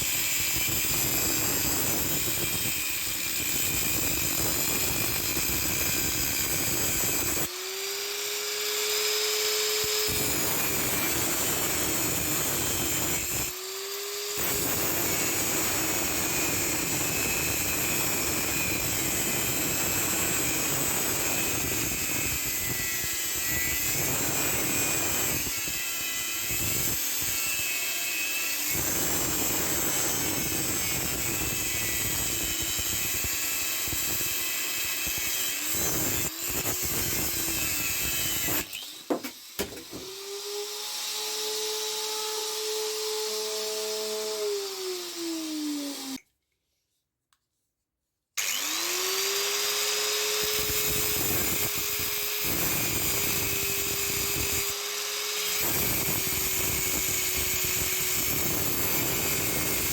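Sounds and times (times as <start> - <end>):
angle grinder grinding metal: 0.0 - 46.2, 48.4 - 59.9.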